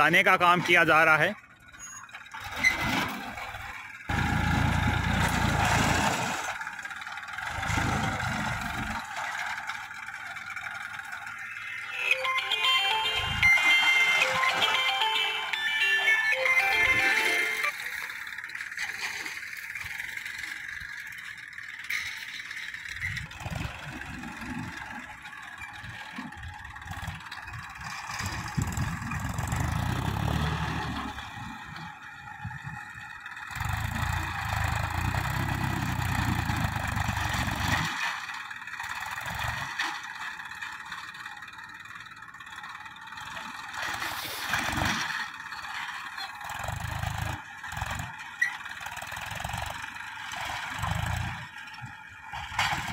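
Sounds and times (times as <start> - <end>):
implement scraping and rattling: 0.0 - 12.4, 13.0 - 52.9
tractor diesel engine under load: 0.0 - 52.9.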